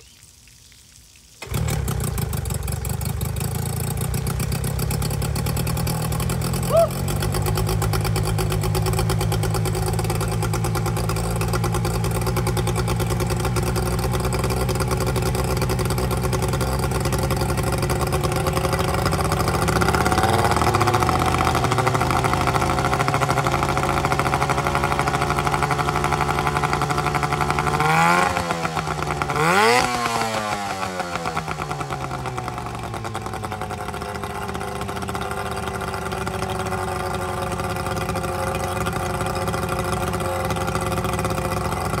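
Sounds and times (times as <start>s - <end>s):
outboard motor running and revving: 1.4s - 42.0s.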